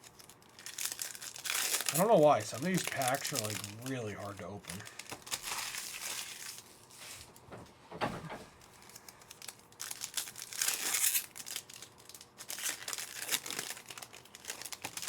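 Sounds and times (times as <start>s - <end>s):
wrappers torn and crinkled: 0.0s - 7.3s, 8.6s - 15.0s.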